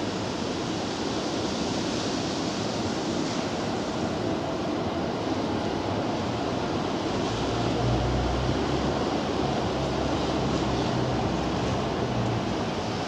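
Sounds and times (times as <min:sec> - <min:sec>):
rain hissing: 0:00.0 - 0:13.0
wind: 0:00.0 - 0:13.0.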